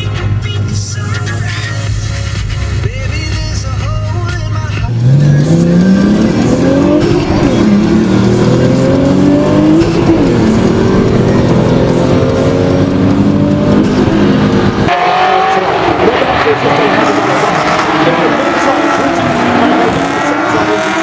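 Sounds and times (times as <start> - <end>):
car engine at full throttle: 0.0 - 21.0.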